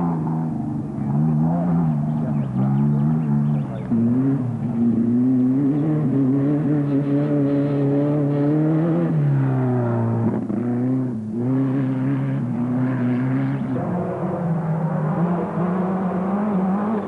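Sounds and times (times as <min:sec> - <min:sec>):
race vehicle engine under load: 0:00.0 - 0:17.0.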